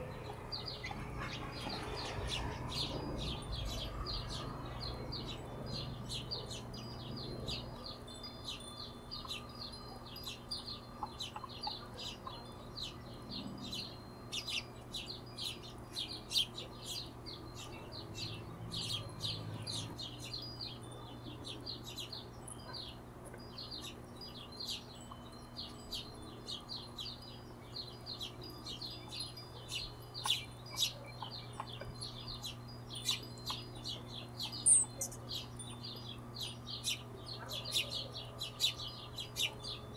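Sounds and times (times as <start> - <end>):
hummingbirds chirping: 0.0 - 39.9
steady low hum: 0.0 - 39.9.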